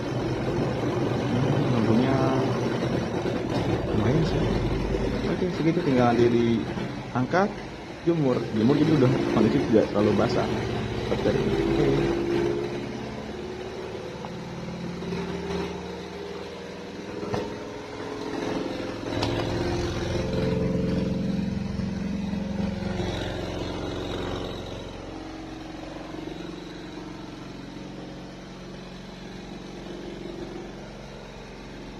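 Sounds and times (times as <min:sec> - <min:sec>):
spin dryer motor humming: 0:00.0 - 0:31.9.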